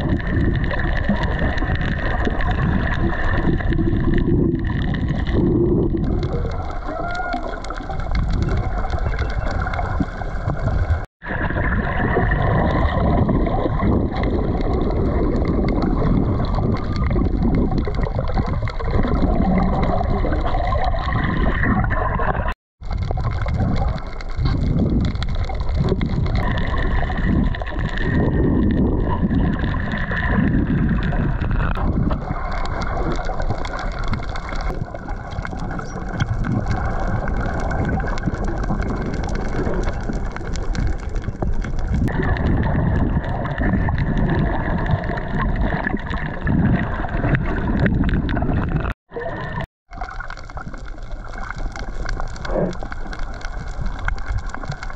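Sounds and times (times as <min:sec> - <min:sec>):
water gurgling and sloshing: 0:00.0 - 0:54.9.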